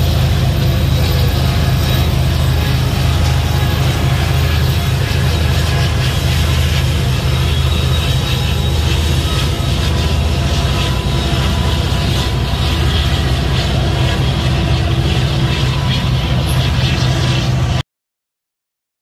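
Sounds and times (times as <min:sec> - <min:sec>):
diesel locomotive engine drone: 0:00.0 - 0:17.8
wheel and rail noise: 0:00.0 - 0:17.8.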